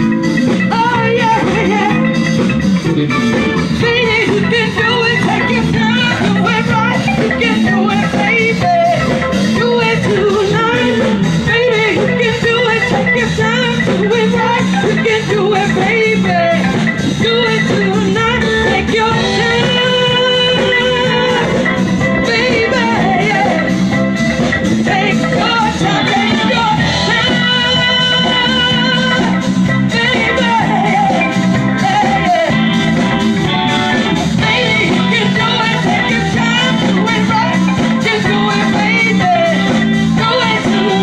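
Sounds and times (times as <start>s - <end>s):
drum kit: 0.0s - 41.0s
electric guitar: 0.0s - 41.0s
keyboard: 0.0s - 41.0s
person singing: 0.0s - 41.0s.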